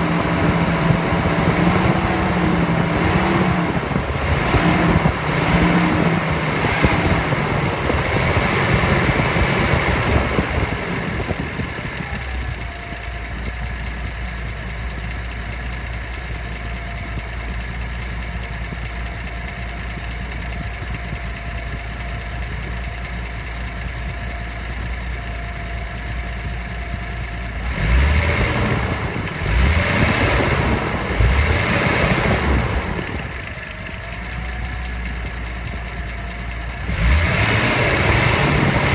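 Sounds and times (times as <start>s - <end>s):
car engine revving and idling: 0.0s - 38.9s
faint engine whine: 0.0s - 38.9s.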